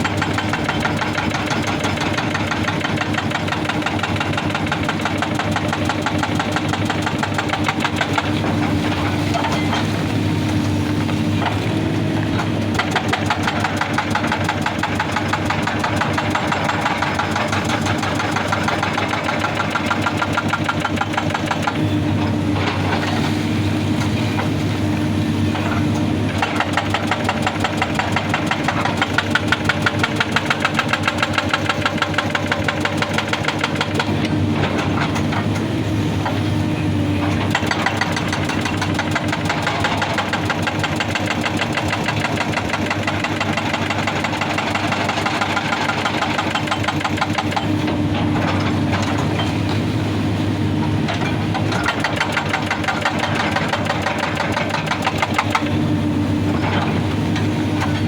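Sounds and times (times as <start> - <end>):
hydraulic breaker hammering rock: 0.0 - 36.5, 37.1 - 49.9, 50.8 - 58.0
diesel engine under load: 0.0 - 58.0.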